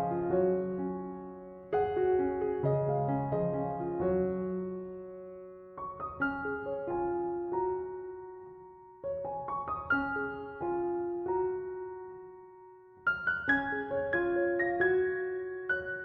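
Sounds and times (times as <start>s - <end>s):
slow gentle solo piano: 0.0s - 16.0s.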